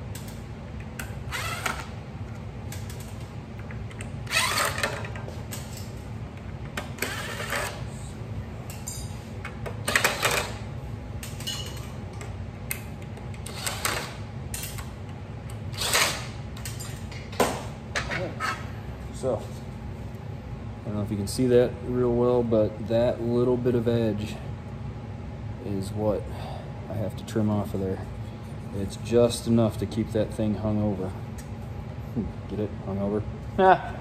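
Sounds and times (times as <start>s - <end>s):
low shop hum: 0.0s - 34.0s.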